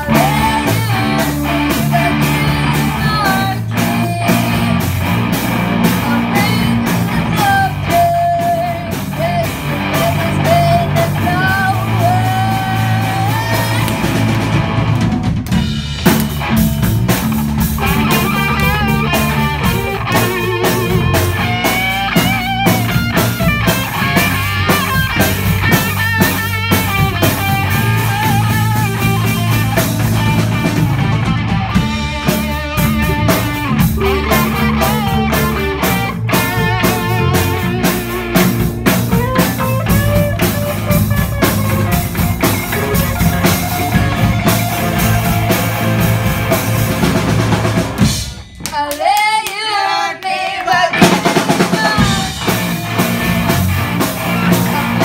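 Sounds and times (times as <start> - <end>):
electric guitar melody: 0.0 - 48.7, 50.9 - 55.0
bass guitar: 0.0 - 48.9, 50.2 - 55.0
drum kit: 0.0 - 55.0.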